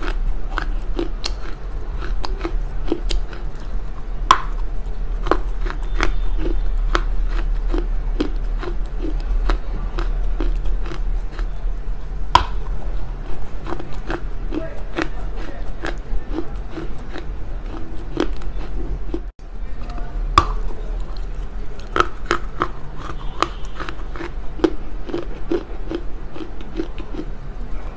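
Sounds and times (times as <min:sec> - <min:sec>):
clay crunching while chewed: 0:00.0 - 0:27.7
steady low hum: 0:00.0 - 0:27.9.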